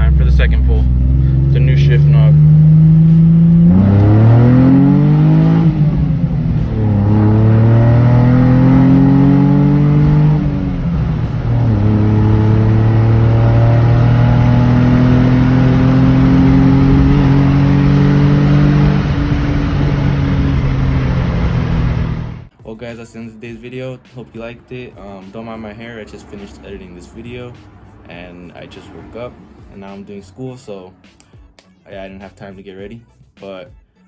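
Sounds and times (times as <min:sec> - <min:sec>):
car engine accelerating: 0:00.0 - 0:22.6, 0:23.3 - 0:31.6.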